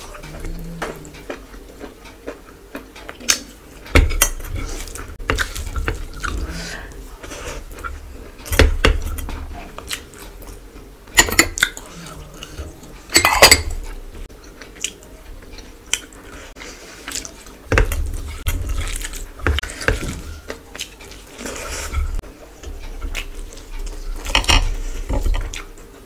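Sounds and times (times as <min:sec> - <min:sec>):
chewing and wet mouth sounds: 0:00.0 - 0:10.9, 0:13.8 - 0:26.0.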